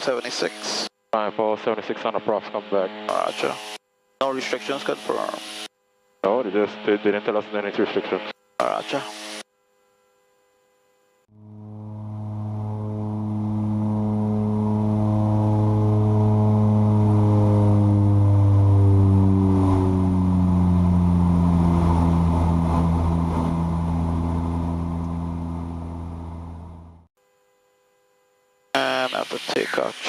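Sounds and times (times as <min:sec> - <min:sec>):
turboprop engines droning: 0:00.0 - 0:09.4, 0:11.3 - 0:27.1.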